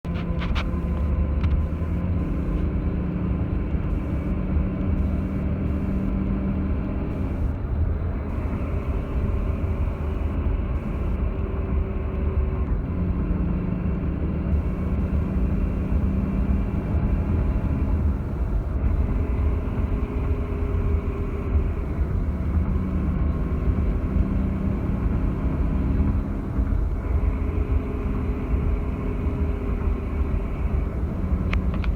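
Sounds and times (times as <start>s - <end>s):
car engine revving: 0.0s - 7.6s, 8.2s - 11.3s, 13.1s - 31.9s
unusual engine sound off throttle: 0.0s - 12.0s, 13.6s - 31.9s.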